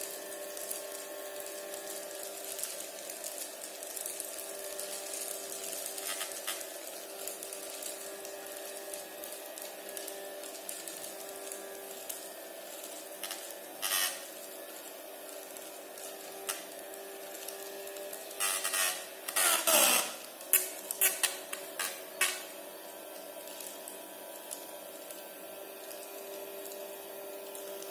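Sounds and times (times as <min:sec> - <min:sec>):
small motor and fan humming: 0:00.0 - 0:27.9.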